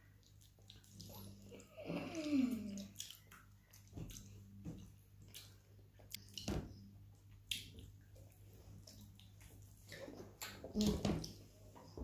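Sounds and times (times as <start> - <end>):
chewing smacks: 0.2 - 6.5, 7.4 - 11.4.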